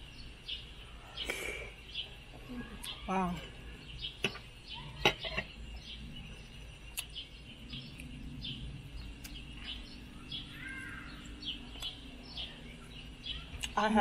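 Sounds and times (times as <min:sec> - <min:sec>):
faint low hum: 0:00.0 - 0:14.0
small bird chirping: 0:00.0 - 0:14.0.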